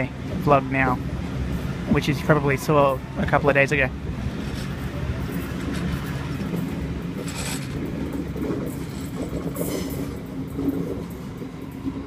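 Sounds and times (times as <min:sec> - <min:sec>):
electric train rumbling away: 0:00.0 - 0:12.0.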